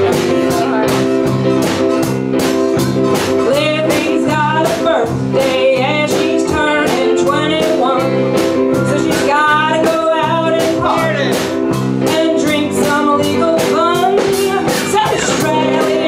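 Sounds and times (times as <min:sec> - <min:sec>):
bass: 0:00.0 - 0:16.0
drums steady beat: 0:00.0 - 0:16.0
electric guitar: 0:00.0 - 0:16.0
keyboard chords: 0:00.0 - 0:16.0.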